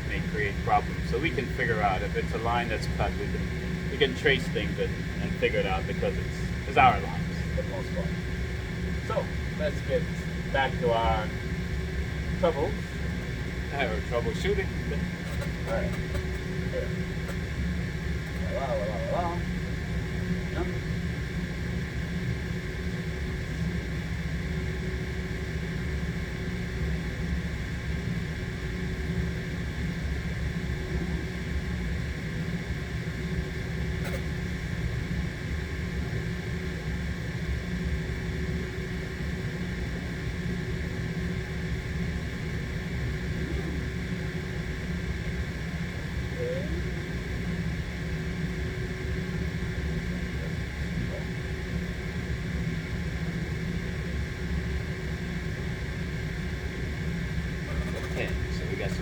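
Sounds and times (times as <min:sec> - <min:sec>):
hvac machinery drone: 0:00.0 - 0:59.0.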